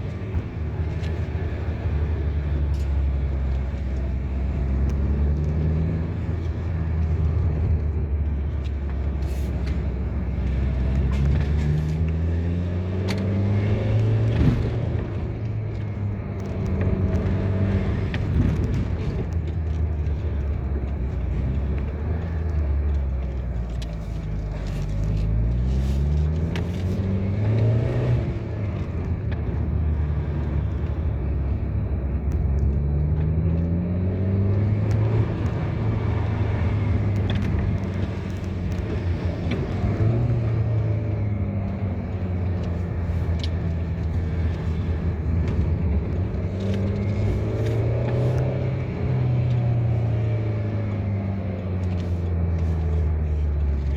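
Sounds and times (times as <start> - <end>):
road noise: 0.0 - 53.9
vehicle engine accelerating: 0.0 - 53.9.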